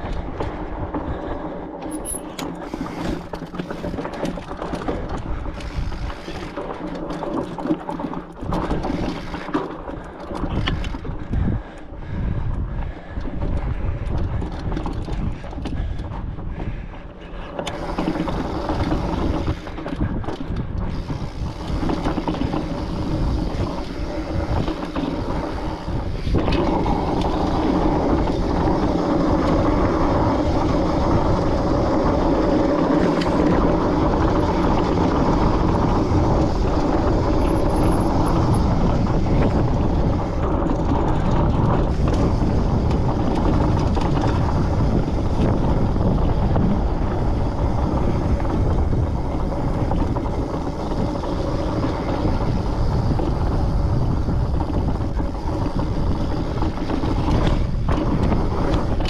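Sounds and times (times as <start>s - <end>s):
bike tyres and drivetrain rumbling: 0.0s - 59.0s
wind rushing over microphone: 0.0s - 59.0s.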